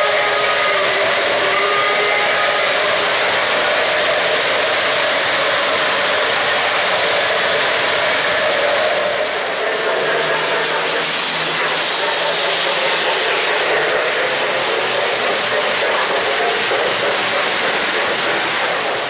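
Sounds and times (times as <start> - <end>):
model train wheels on rails: 0.0 - 19.0.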